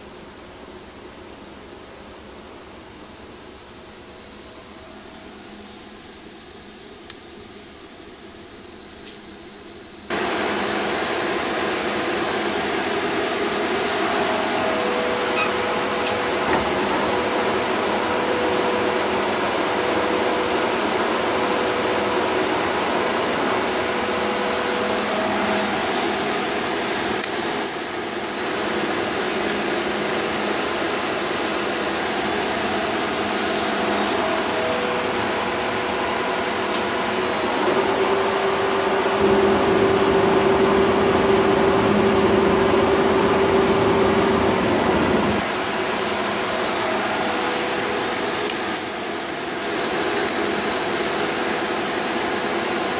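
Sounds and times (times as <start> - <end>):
lathe hum and whine: 0.0 - 52.9
steady machine tone: 0.0 - 52.9.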